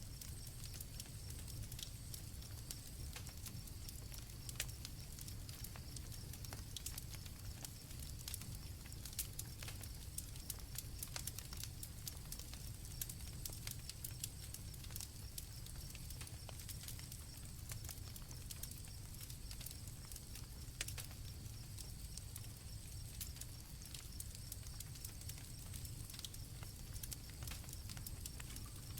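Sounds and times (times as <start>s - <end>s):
campfire crackling and popping: 0.0s - 28.9s
crickets trilling: 0.0s - 28.9s.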